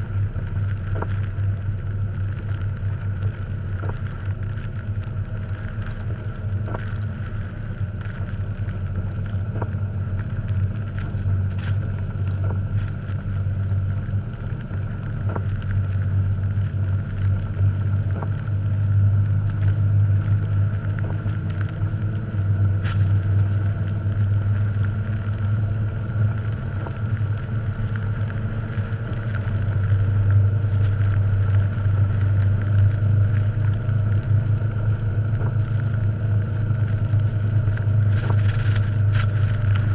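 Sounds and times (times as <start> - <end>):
car engine running under load: 0.0 - 39.9.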